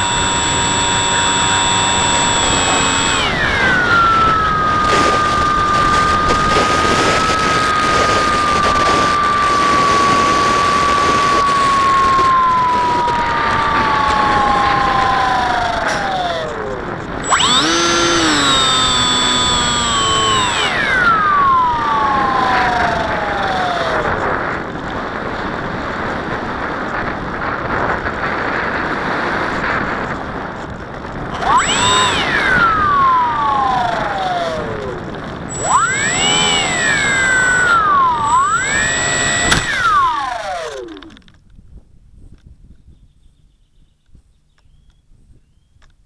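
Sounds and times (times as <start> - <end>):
electric motor and propeller whine: 0.0 - 42.4
wind rush: 0.0 - 42.9.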